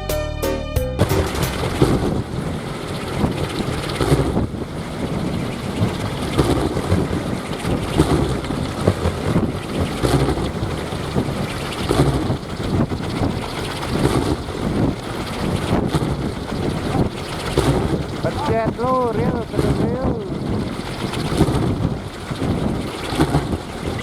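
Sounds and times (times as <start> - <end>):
wooden propellers whirring drone: 1.0 - 24.0
wind buffeting microphone: 1.1 - 24.0.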